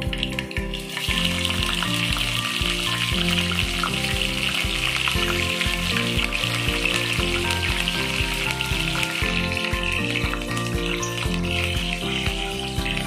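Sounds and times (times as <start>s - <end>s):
background music with bass line: 0.0s - 13.0s
chillies sizzling in hot oil: 0.0s - 13.0s.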